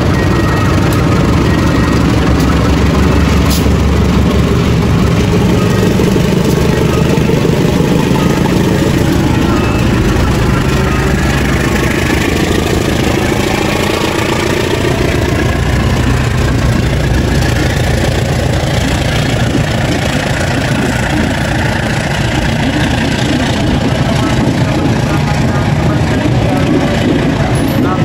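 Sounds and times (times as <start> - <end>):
locomotive engine running: 0.0 - 28.0
train carriages rolling on rails: 0.0 - 28.0.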